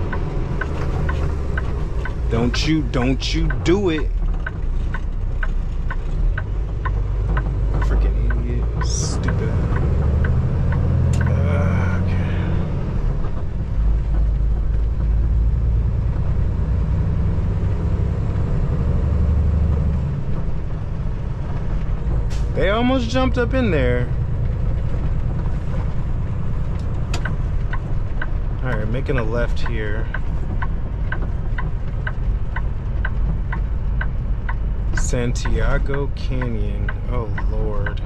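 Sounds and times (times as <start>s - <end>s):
regular ticking: 0.0s - 16.6s, 19.5s - 38.0s
diesel engine rumbling: 0.0s - 38.0s.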